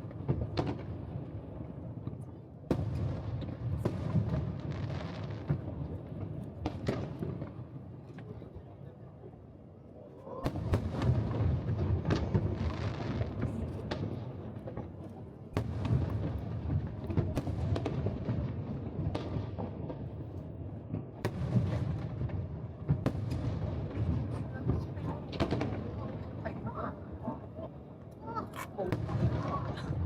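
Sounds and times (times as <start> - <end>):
fireworks bangs and crackles: 0.0 - 8.9, 10.4 - 30.0.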